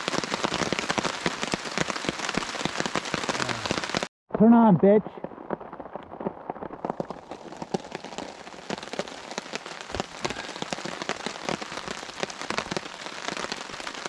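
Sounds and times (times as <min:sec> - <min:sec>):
rain on a tarp: 0:00.0 - 0:14.0.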